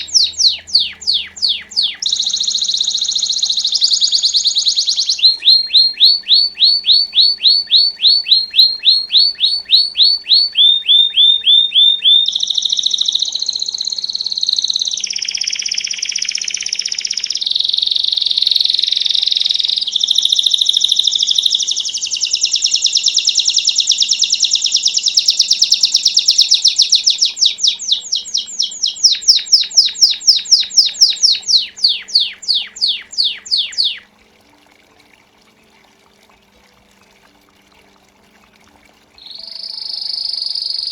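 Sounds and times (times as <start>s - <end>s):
canary singing trills: 0.0s - 34.2s, 39.2s - 40.9s.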